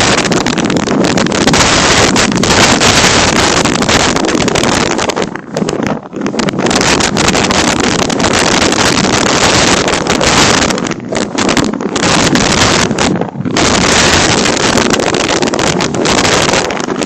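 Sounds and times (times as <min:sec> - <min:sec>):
strong wind gusting on microphone: 0:00.0 - 0:17.0.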